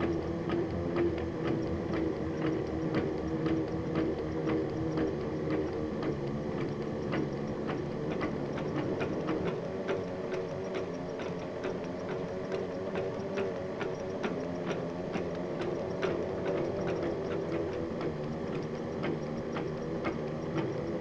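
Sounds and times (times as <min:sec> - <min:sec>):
regular clicking: 0:00.0 - 0:21.0.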